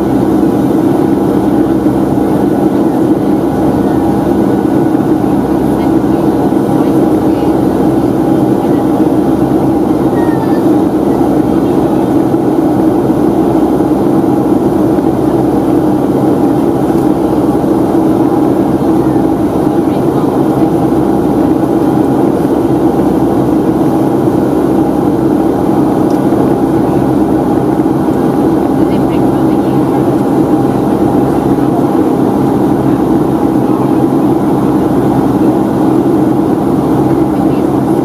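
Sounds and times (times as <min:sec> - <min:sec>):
airliner cabin noise: 0:00.0 - 0:38.0.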